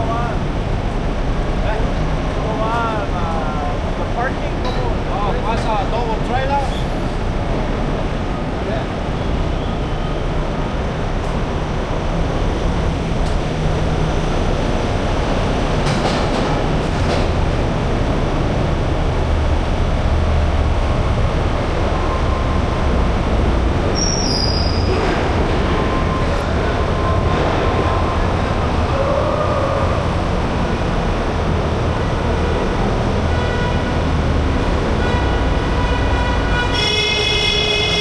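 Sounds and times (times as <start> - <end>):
truck engine and tyre rumble: 0.0 - 38.0.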